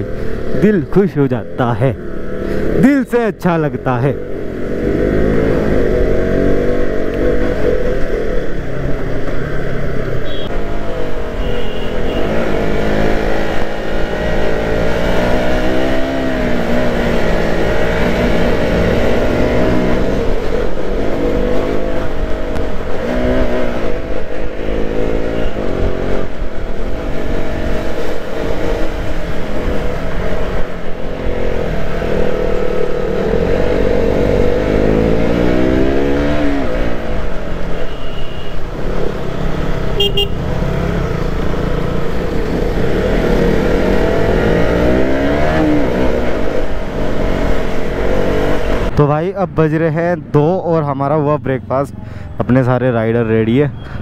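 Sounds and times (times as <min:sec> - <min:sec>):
motorcycle engine revving: 0:03.6 - 0:11.2, 0:11.9 - 0:49.0.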